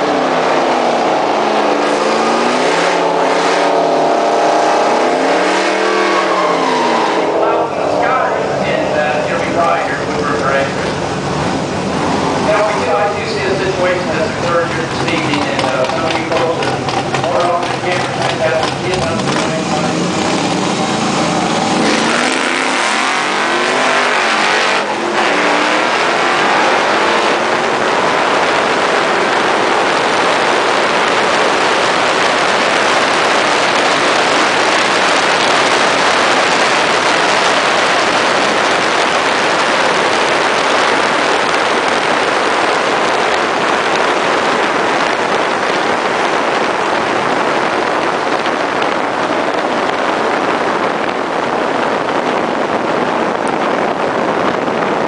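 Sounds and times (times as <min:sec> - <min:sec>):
car engine accelerating: 0:00.0 - 0:55.0
wind rushing over microphone: 0:00.0 - 0:55.0.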